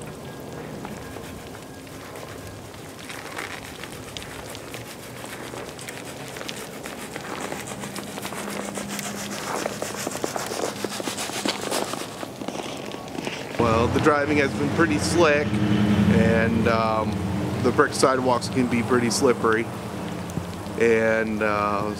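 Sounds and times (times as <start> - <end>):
steady noisy hiss: 0.0 - 12.4, 13.2 - 21.9
low steady hum: 0.0 - 21.9
scattered crackles: 0.0 - 21.9.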